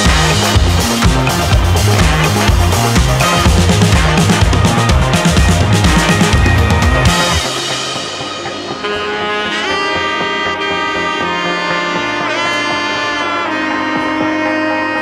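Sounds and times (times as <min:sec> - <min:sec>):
sliding lead melody: 0:00.0 - 0:15.0
sustained low notes: 0:00.0 - 0:15.0.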